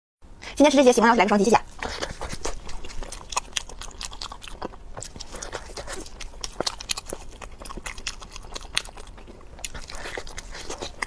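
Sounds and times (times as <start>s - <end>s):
wet chewing: 1.6s - 11.0s.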